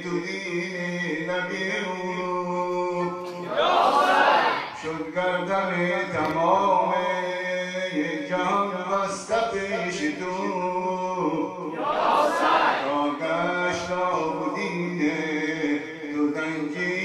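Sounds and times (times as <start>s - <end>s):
man chanting into microphone: 0.0s - 3.5s, 4.7s - 11.8s, 12.8s - 17.0s.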